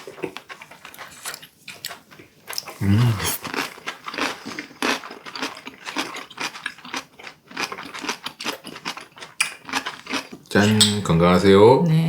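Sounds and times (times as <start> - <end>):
wet chewing clicks and smacks: 0.0 - 11.1.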